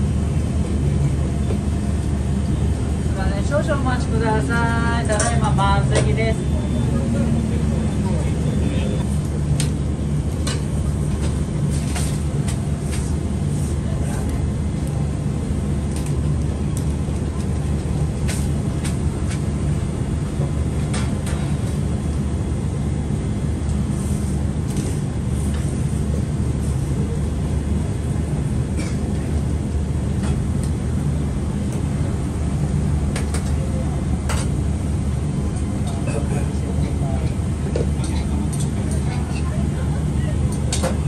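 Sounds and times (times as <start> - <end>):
kitchen burners rumbling: 0.0 - 41.0.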